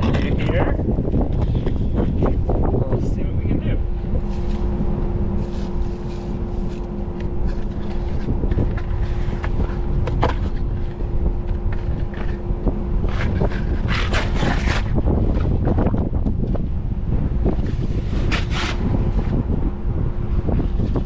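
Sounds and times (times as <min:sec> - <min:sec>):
furnace draft fan humming: 0:00.0 - 0:21.0
wind rumble on microphone: 0:00.0 - 0:21.0.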